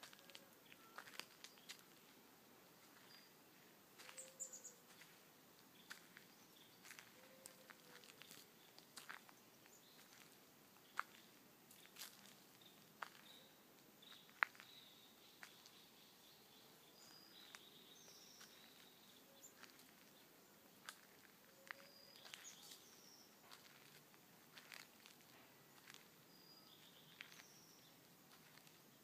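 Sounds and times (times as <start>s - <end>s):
footsteps on gravel path: 0.0s - 2.2s, 2.8s - 3.3s, 3.9s - 15.8s, 16.9s - 28.9s
faint birds chirping: 0.0s - 29.0s.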